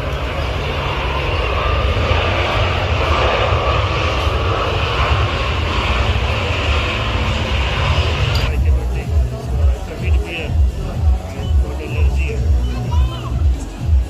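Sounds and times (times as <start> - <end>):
jet airliner passing: 0.0 - 14.0.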